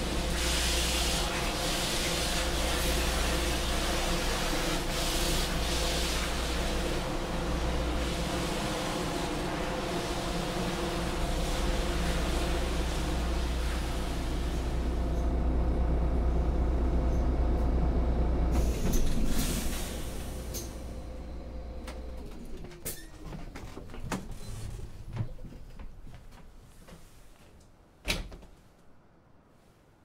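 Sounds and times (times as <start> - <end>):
bus engine rumble: 0.0 - 26.1.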